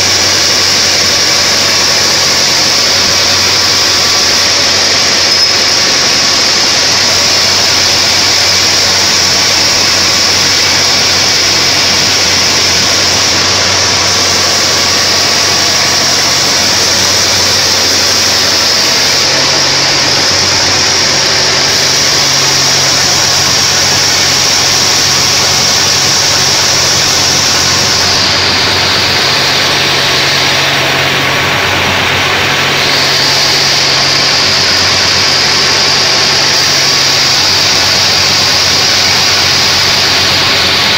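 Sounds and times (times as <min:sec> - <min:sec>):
bandsaw cutting log: 0:00.0 - 0:40.9.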